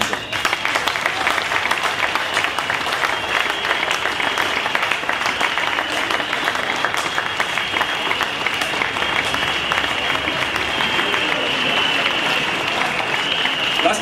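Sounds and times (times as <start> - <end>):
large crowd applauding: 0.0 - 14.0.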